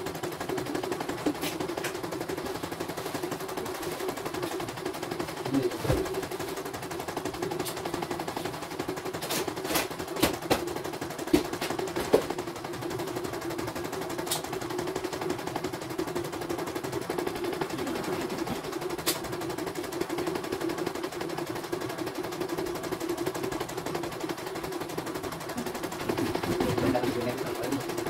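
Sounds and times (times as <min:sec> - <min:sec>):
embroidery machine rattling: 0:00.0 - 0:28.0.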